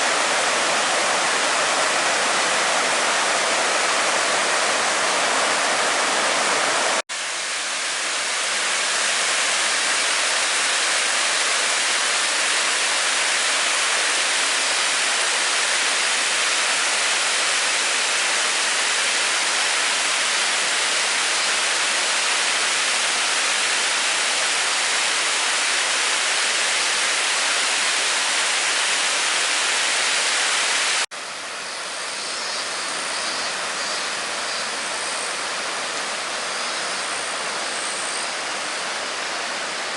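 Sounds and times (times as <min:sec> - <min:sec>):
flowing stream water: 0:00.0 - 0:39.9.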